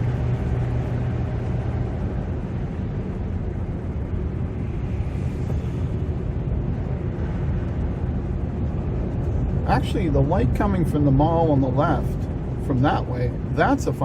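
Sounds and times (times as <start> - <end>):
low hum: 0.0 - 13.7
car engine and road drone: 0.0 - 14.0.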